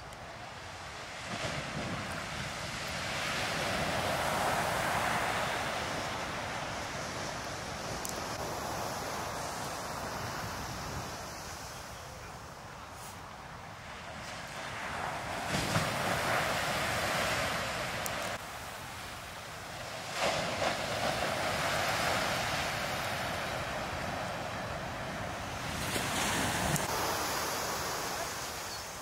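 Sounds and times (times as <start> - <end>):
surf rushing up beach: 0.0 - 29.0
waves crashing on shore: 0.0 - 29.0.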